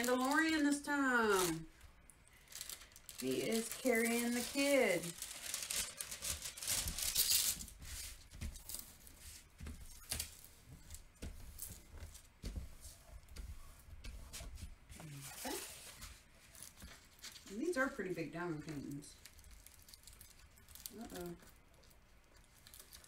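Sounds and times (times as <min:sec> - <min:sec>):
plastic cover crinkling: 0:00.0 - 0:13.3, 0:15.1 - 0:23.0.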